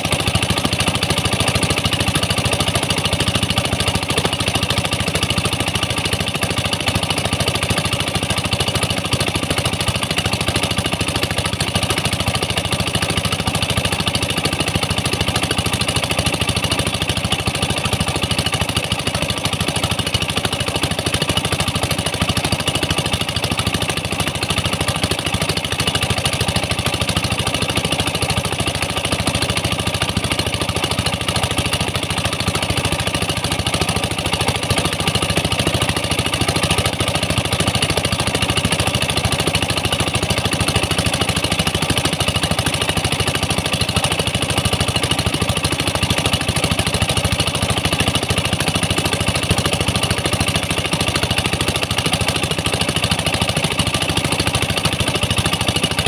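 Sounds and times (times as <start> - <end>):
pump engines running: 0.0 - 56.0.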